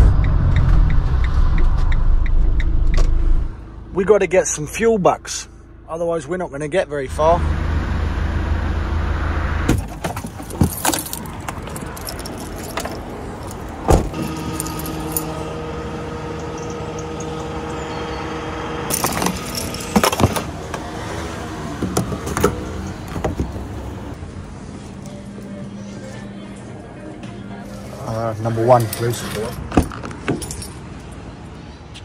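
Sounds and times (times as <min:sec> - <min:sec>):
diesel van engine running: 0:00.0 - 0:29.5.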